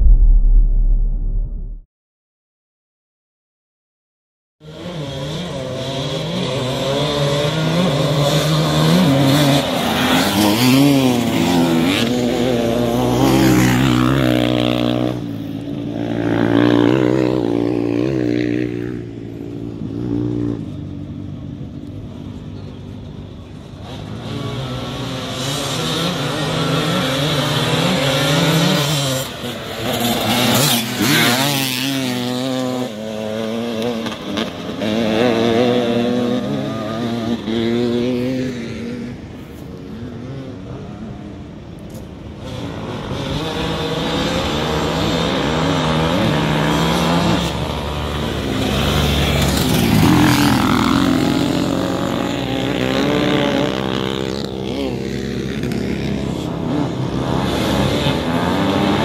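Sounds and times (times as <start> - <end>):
trail bike engines revving: 4.6 - 59.0.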